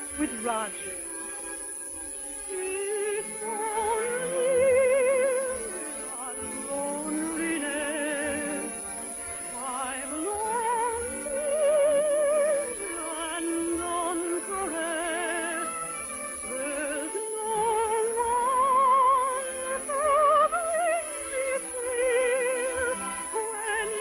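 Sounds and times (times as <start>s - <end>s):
operatic singing with vibrato: 0.0s - 24.0s.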